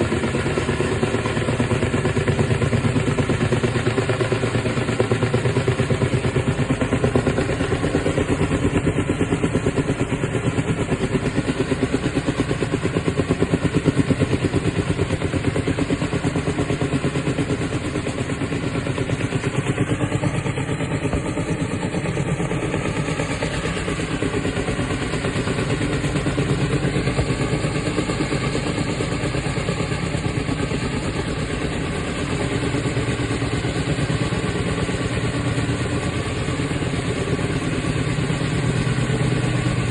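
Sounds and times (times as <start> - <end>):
helicopter rotor beating: 0.0 - 39.9.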